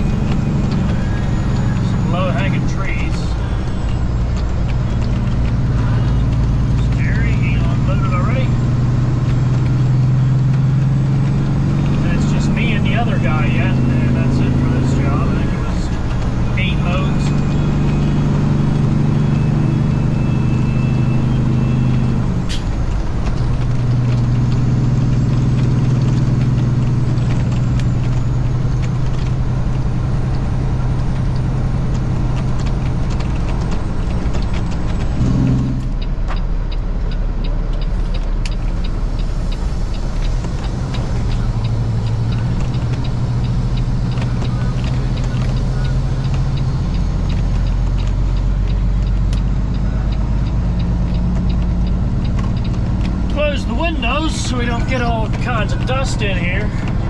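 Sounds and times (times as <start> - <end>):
diesel truck engine running: 0.0 - 57.0
regular ticking: 0.0 - 57.0.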